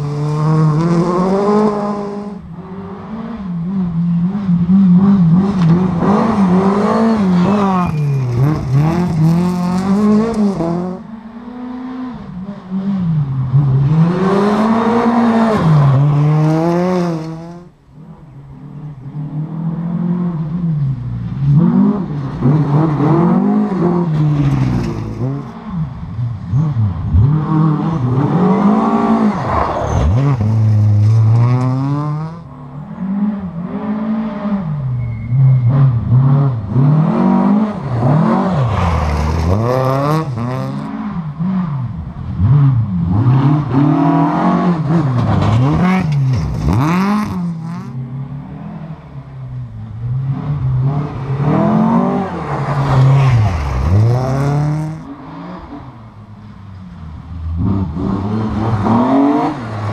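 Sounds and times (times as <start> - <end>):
rally car engine revving: 0.0 - 56.2, 57.1 - 59.9.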